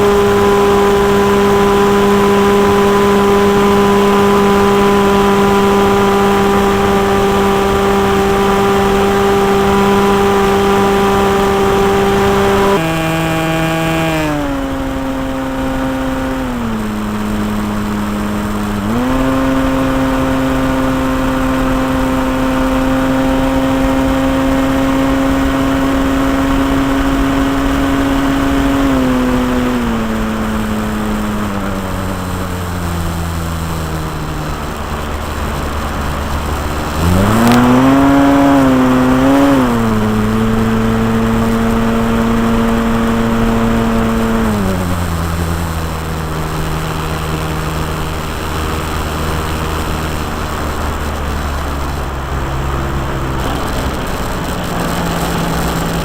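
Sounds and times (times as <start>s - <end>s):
model airplane engine: 0.0s - 56.0s.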